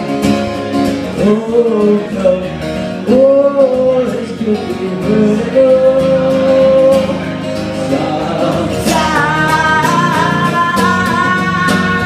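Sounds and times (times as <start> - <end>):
folk band playing: 0.0 - 12.0
person singing: 1.0 - 12.0.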